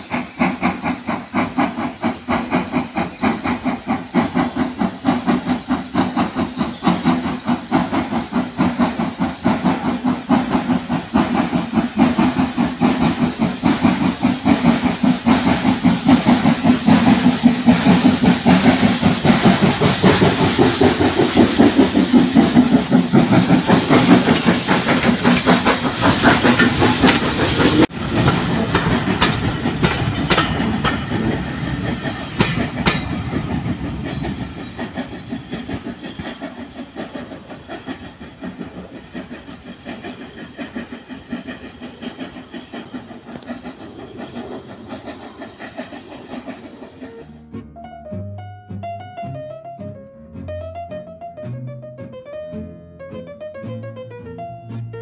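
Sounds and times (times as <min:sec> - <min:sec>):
steam locomotive chuffing: 0:00.0 - 0:48.0
train wheels clicking over rail joints: 0:00.0 - 0:55.0.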